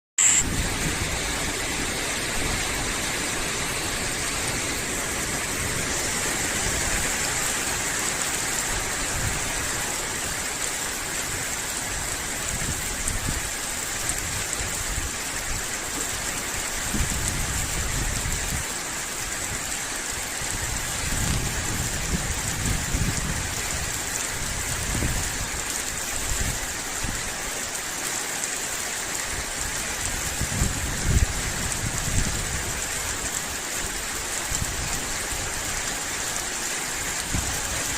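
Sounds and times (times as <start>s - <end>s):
steady rain falling: 0.4s - 37.9s.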